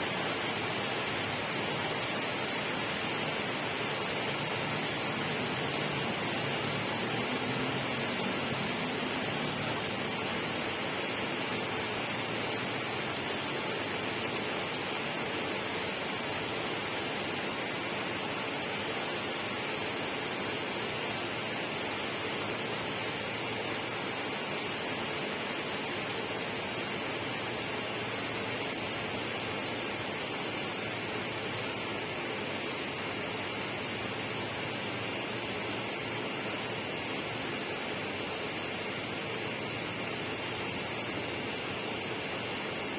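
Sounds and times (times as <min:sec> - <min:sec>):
steady rushing noise: 0:00.0 - 0:42.9.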